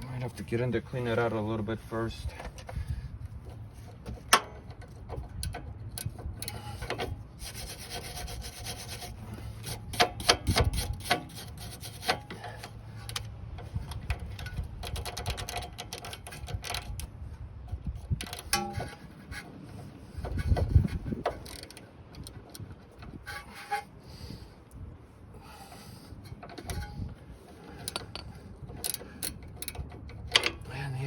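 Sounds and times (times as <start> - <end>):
metal tool scraping rusty metal: 2.3 - 17.1, 17.7 - 24.4, 25.4 - 30.6.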